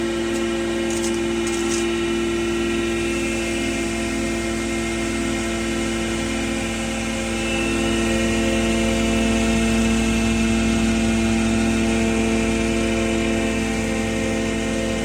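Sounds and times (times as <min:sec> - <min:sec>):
feed pulveriser machine humming: 0:00.0 - 0:15.0.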